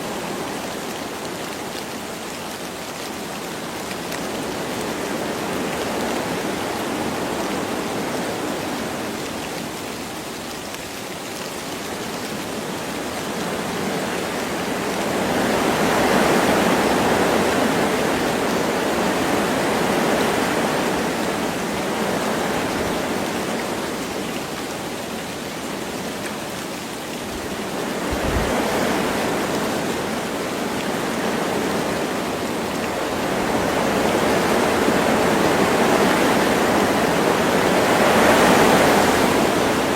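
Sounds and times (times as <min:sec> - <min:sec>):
light rain: 0:00.0 - 0:39.9
wind through forest trees: 0:00.0 - 0:39.9.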